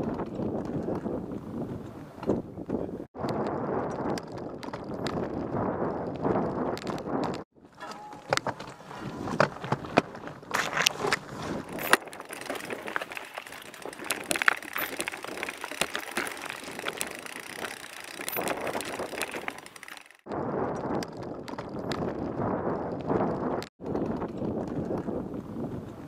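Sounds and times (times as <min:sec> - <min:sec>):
bike rattling over rocks: 0:03.3 - 0:25.4.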